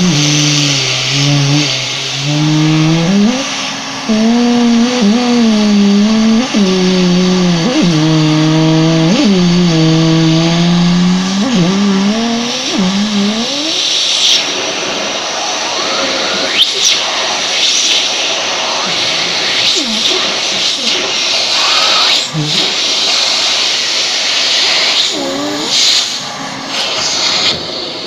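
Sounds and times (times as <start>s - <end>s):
buzzing suction tone: 0.0s - 27.7s
vacuum cleaner hissing: 0.0s - 28.0s.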